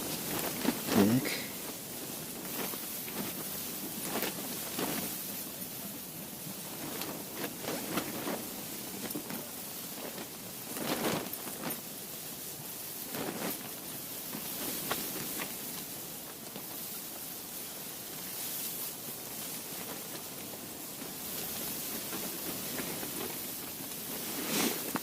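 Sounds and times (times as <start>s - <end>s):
rustles and soft patter: 0.0s - 25.0s
steady hiss: 0.0s - 25.0s.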